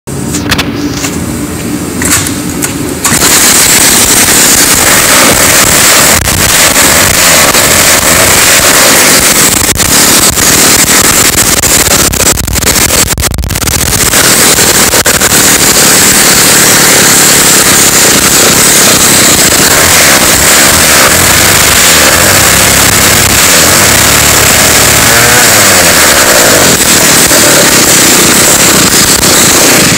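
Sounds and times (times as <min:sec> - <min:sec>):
chainsaw engine running: 0:03.0 - 0:29.9.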